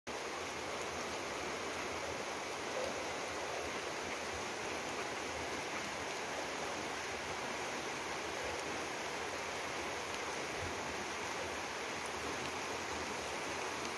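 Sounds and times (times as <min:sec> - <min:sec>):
river rushing over rocks: 0:00.1 - 0:13.9.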